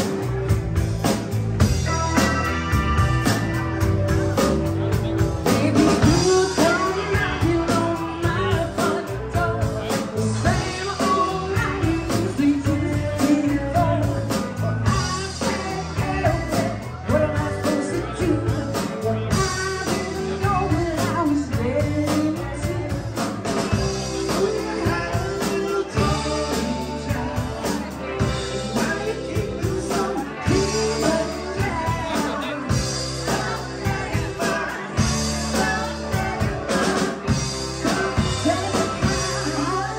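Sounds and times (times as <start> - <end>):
drum kit: 0.0 - 39.9
electric guitars: 0.0 - 39.9
woman singing: 5.5 - 39.9.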